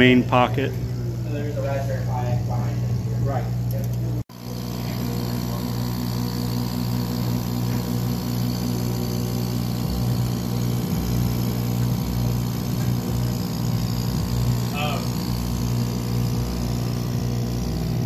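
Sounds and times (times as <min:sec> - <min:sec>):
laser cutter machine hum: 0:00.0 - 0:18.0.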